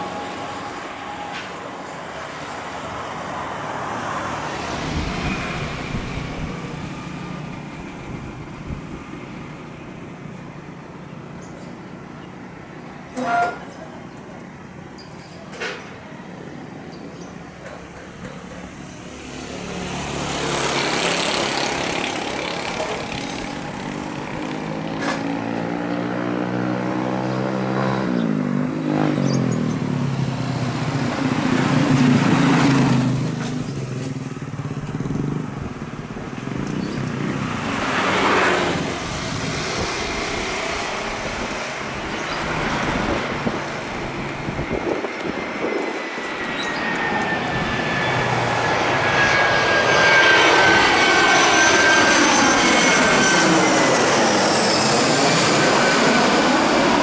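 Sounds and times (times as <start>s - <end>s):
jet engines passing overhead: 0.0s - 57.0s.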